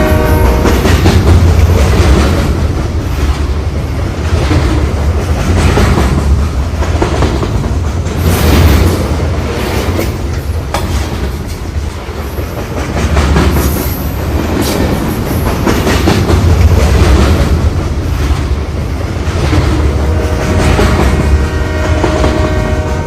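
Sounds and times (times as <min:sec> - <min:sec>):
train rumbling on track: 0:00.0 - 0:23.0
wheels clattering over rails: 0:00.5 - 0:21.4.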